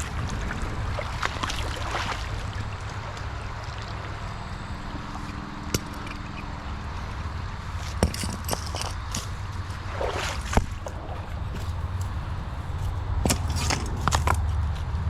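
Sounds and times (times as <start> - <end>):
creek water running: 0.0 - 14.4.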